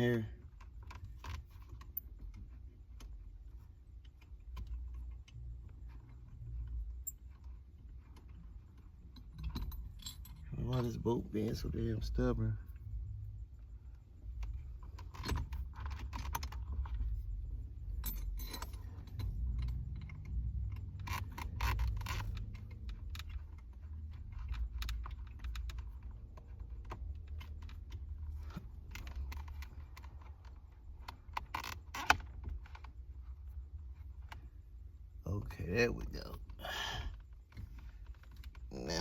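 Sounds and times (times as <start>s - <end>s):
small metallic clicks and rattles: 0.0s - 35.0s
low steady rumble: 0.0s - 39.0s.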